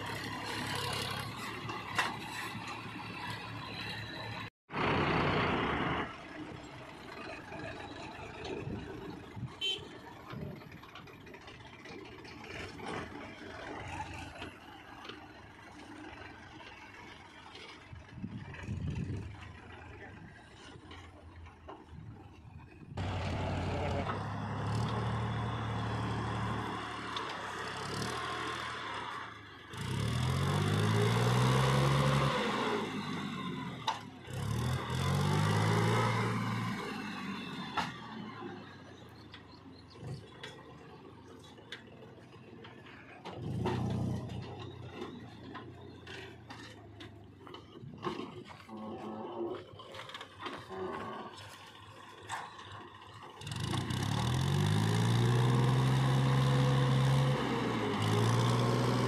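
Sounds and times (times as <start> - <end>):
diesel engines revving: 0.0 - 59.0.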